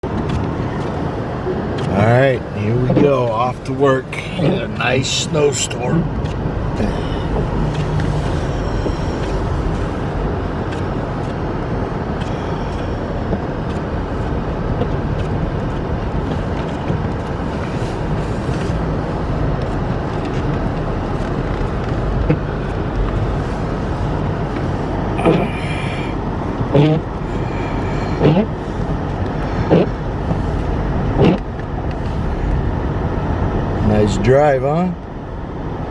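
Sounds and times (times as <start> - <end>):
road and engine noise in cabin: 0.0 - 35.9.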